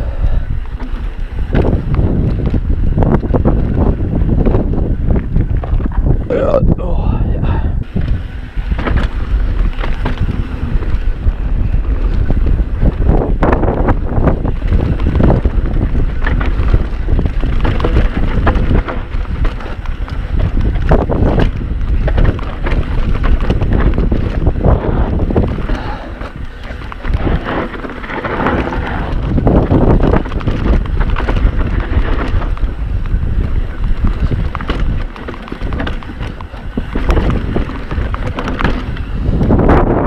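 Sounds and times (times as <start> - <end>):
tyres rolling on trail: 0.0 - 40.0
wind buffeting microphone: 0.0 - 40.0
bike knocks and rattles: 0.4 - 6.3, 7.8 - 40.0.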